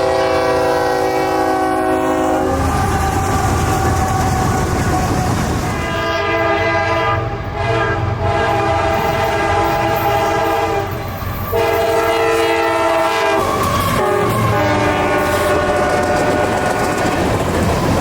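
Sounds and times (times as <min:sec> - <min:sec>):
locomotive air horn blasts: 0:00.0 - 0:17.2
train rumbling: 0:00.0 - 0:18.0.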